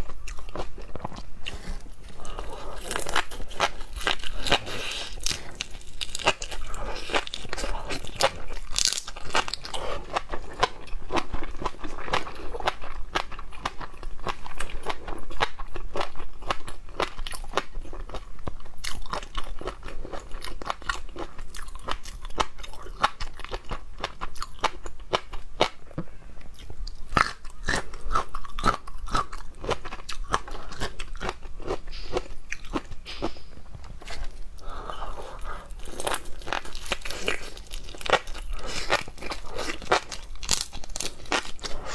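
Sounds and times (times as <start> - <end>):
person chewing crunchy food: 0.0 - 41.9.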